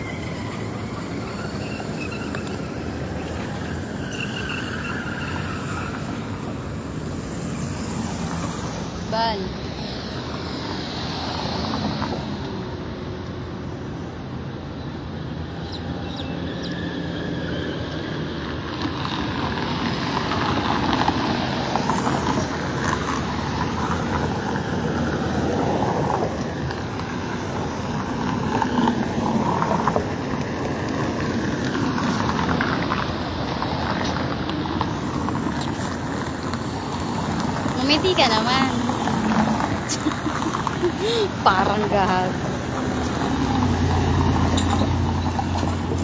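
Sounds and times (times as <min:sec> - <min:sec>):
cars driving past: 0:00.0 - 0:46.0.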